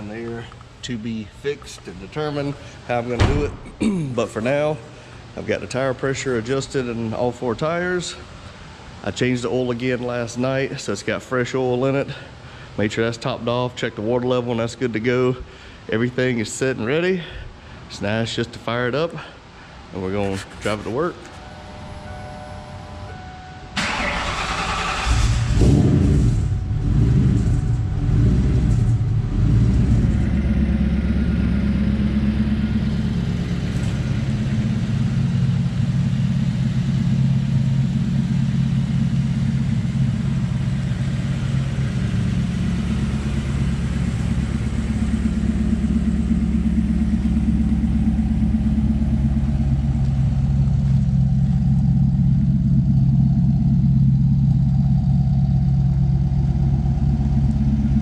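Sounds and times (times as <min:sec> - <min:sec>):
car engine starting and idling: 0:00.0 - 0:13.1, 0:19.4 - 0:58.0.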